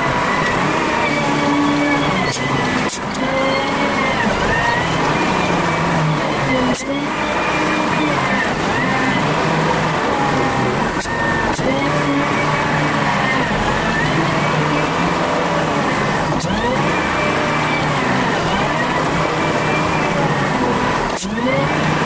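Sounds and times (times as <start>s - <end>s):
diesel engine and hydraulics: 0.0s - 22.0s.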